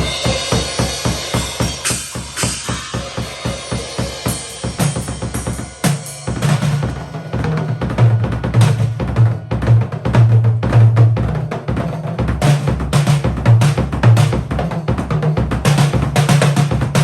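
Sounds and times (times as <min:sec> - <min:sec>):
low drum tones ringing: 0:00.0 - 0:14.6
drum kit playing: 0:00.0 - 0:17.0.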